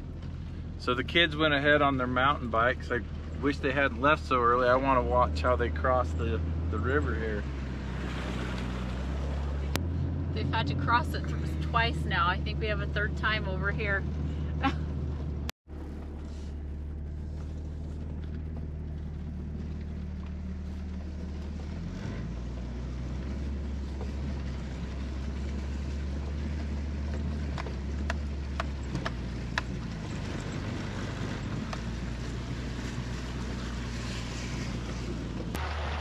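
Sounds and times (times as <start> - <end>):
car engine running at low speed: 0.0 - 36.0
water sloshing around wheels: 0.0 - 36.0.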